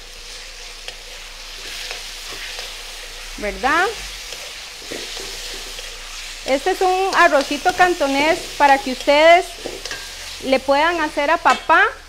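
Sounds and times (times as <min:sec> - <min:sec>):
chicken sizzling in oil: 0:00.0 - 0:12.0
metal spoon scraping wok: 0:00.2 - 0:11.8.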